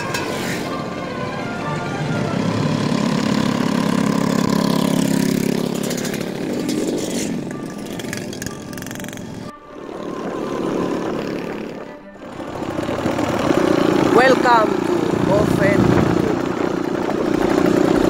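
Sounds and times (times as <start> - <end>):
scooter engines passing: 0.0 - 18.0.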